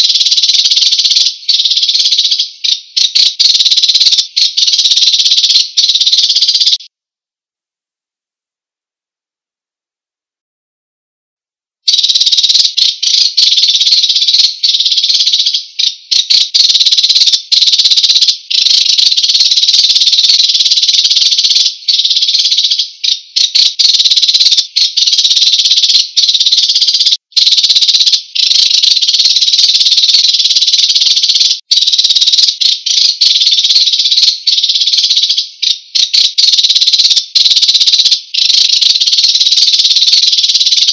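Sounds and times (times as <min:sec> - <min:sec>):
sparrow buzzy trilling song: 0:00.0 - 0:06.9, 0:11.9 - 0:40.9.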